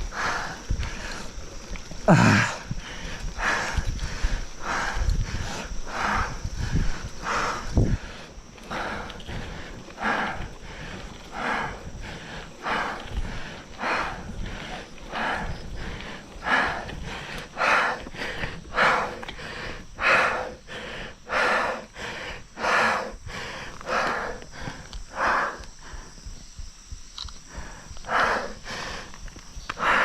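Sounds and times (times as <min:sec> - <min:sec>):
heavy rhythmic breathing: 0:00.0 - 0:30.0.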